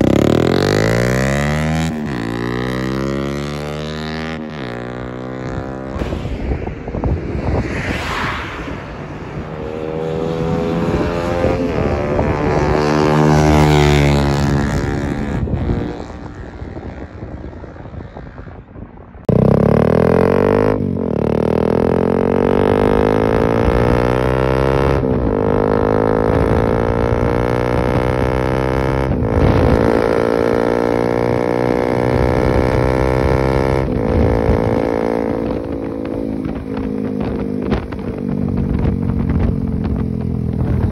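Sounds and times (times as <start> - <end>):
motorcycle engine revving: 0.0 - 7.5, 8.6 - 40.9.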